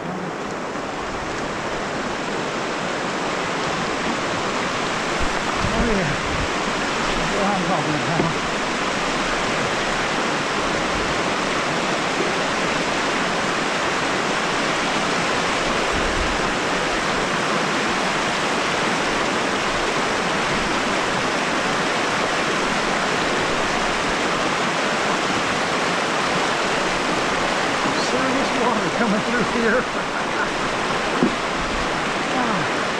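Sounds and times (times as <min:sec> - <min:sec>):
fast river water rushing: 0:00.0 - 0:32.9.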